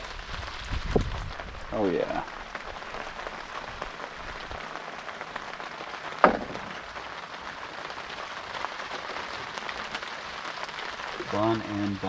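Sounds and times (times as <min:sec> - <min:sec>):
heavy rain on tent fly: 0:00.0 - 0:12.0.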